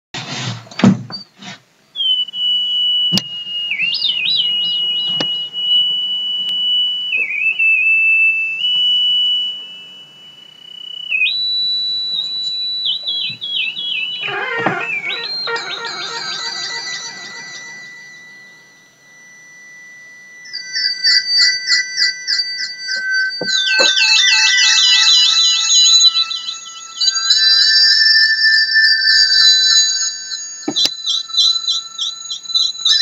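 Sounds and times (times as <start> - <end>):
high whistling tone: 1.4 - 33.0.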